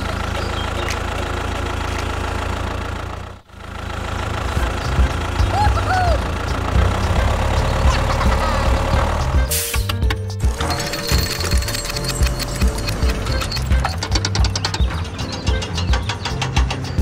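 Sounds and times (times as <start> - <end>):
engine chugging unevenly: 0.0 - 17.0
tractor engine droning: 0.0 - 17.0.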